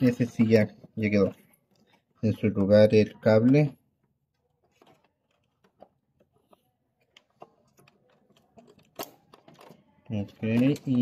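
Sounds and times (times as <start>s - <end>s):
clicks of plastic printer parts: 1.7s - 11.0s.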